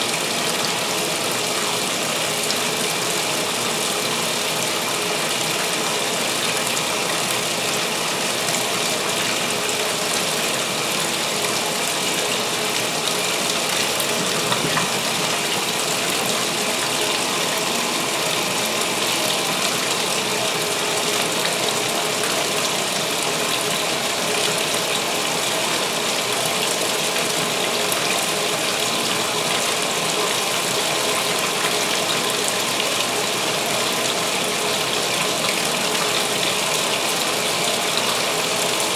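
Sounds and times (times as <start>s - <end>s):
water pouring into washing machine: 0.0s - 38.9s.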